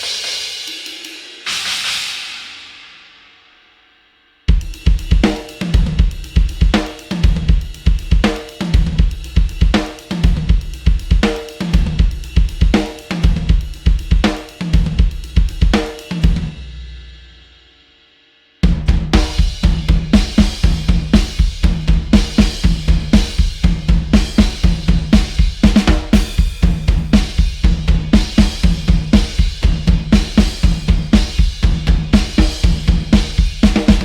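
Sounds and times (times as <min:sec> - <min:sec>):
rock drum kit beat: 0:00.0 - 0:03.1, 0:04.5 - 0:17.3, 0:18.6 - 0:34.0.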